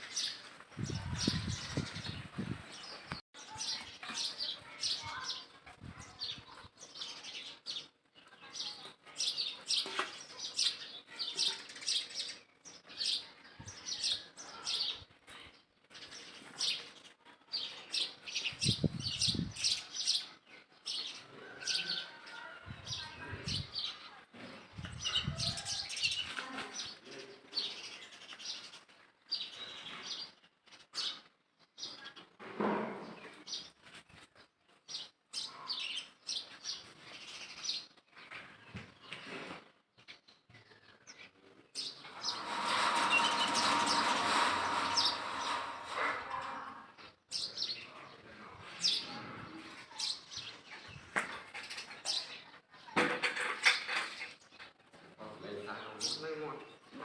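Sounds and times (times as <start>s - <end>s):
small birds chirping: 0.0s - 32.4s, 33.0s - 57.0s.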